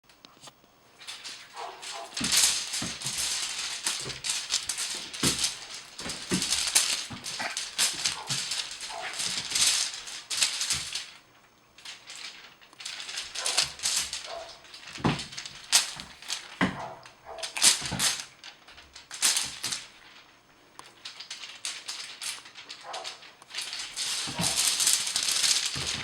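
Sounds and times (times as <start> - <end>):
cat playing with rattling toy: 1.0 - 26.0.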